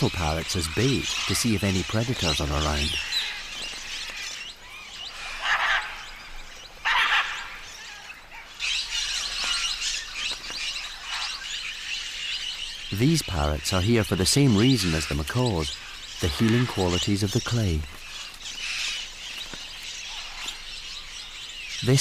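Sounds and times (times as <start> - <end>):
parrots chattering: 0.0 - 19.4.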